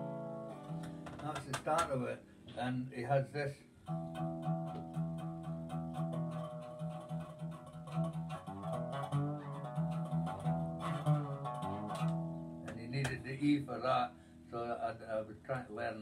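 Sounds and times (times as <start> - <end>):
slide guitar notes: 0.0 - 2.7, 3.8 - 14.6.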